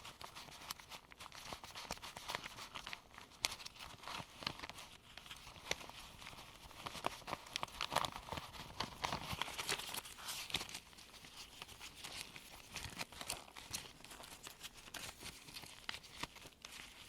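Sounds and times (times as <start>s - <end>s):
paper bills snapping and flicking: 0.0s - 17.0s
paper rustling: 0.0s - 17.0s.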